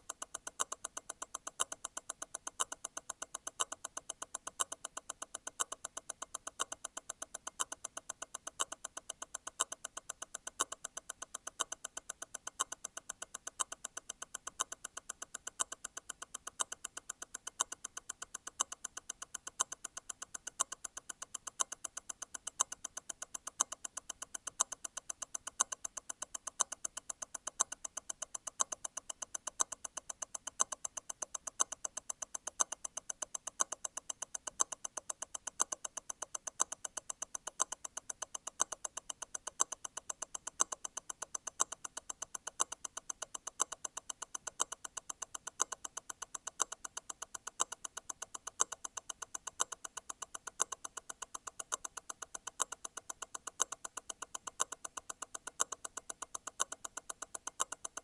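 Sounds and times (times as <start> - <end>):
watch movement ticking: 0.0 - 58.0.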